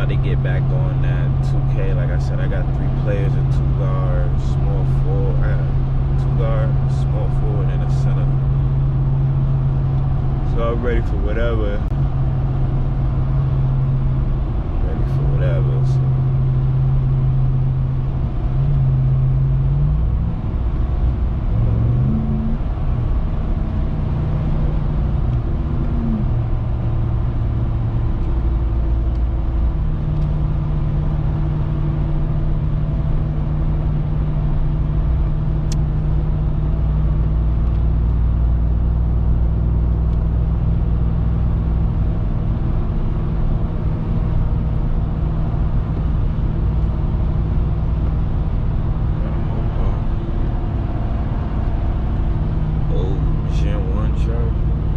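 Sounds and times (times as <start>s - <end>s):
pickup truck engine accelerating: 0.0s - 54.9s.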